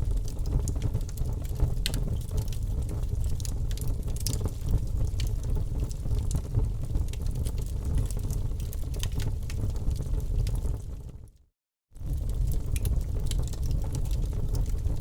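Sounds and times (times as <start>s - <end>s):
wood fire crackling: 0.0s - 11.3s, 12.0s - 15.0s.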